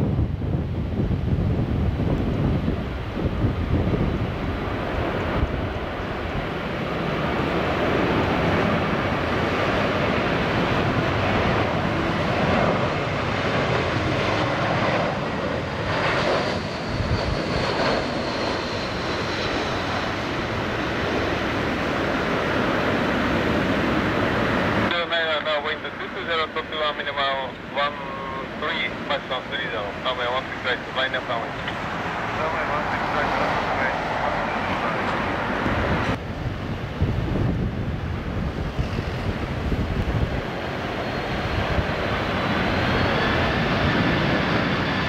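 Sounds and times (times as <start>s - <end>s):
airliner jet engines: 0.0s - 45.0s
high engine whine: 0.0s - 45.0s.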